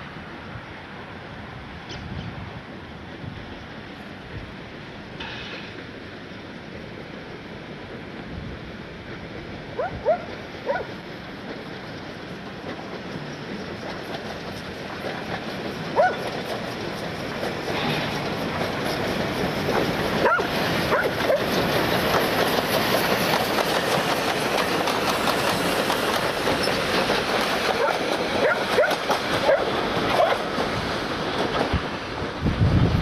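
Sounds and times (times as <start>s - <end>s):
train rolling on rails: 0.0s - 33.0s.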